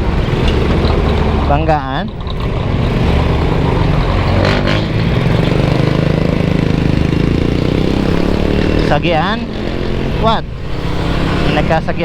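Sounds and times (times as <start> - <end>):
hiss of surrounding traffic: 0.0 - 12.0
motorcycle engine running steadily: 0.0 - 12.0.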